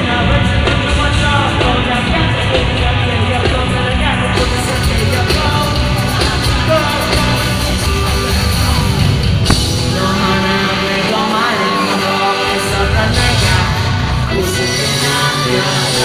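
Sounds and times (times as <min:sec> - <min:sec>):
man singing into a microphone: 0:00.0 - 0:08.8, 0:09.8 - 0:16.0
loud backing track: 0:00.0 - 0:16.0.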